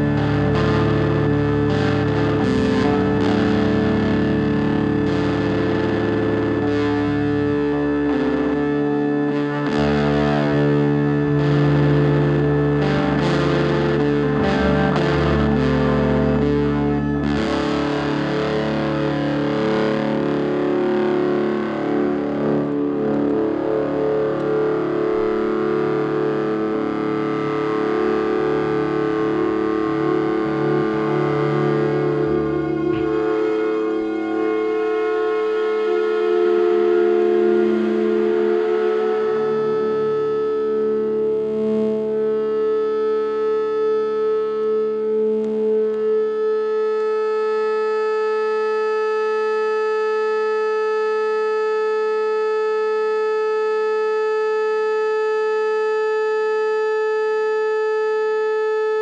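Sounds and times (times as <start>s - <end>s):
distorted electric guitar chords: 0.0s - 59.0s.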